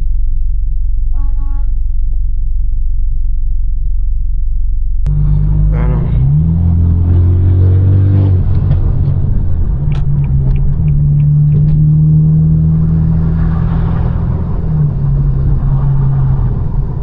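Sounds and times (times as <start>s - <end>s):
car engine droning: 0.0s - 17.0s
exhaust crackles: 0.0s - 17.0s.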